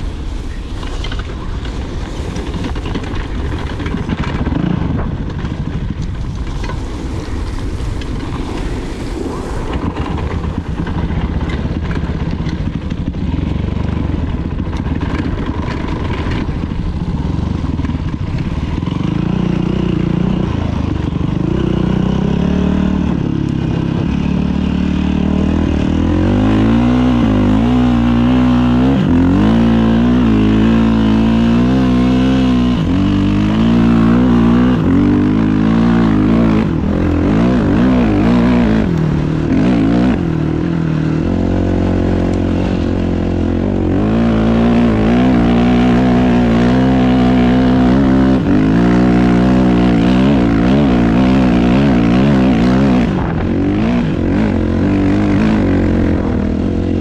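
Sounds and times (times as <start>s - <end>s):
dirt bike engine revving: 2.1s - 57.0s.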